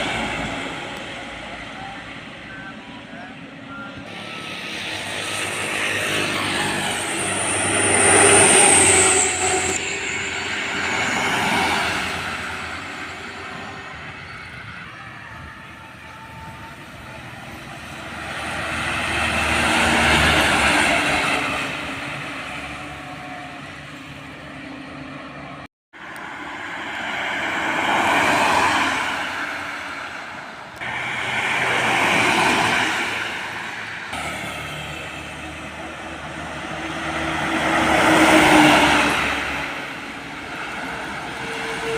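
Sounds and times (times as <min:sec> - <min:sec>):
vehicles passing by: 0:00.0 - 0:41.9.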